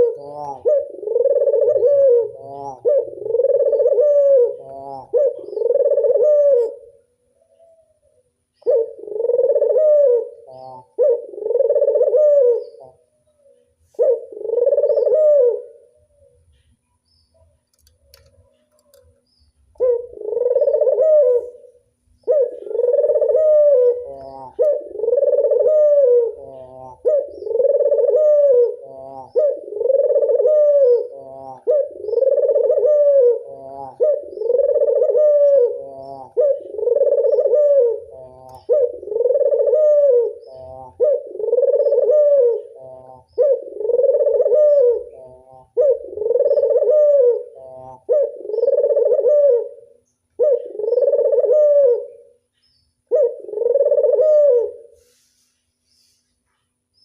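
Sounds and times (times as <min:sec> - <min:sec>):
dove cooing: 0:00.0 - 0:16.7, 0:19.7 - 0:55.1.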